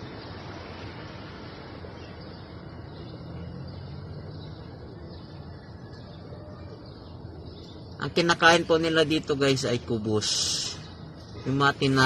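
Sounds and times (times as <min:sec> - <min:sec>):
faint pigeon sounds: 0:00.0 - 0:12.0
outdoor background rumble: 0:00.0 - 0:12.0.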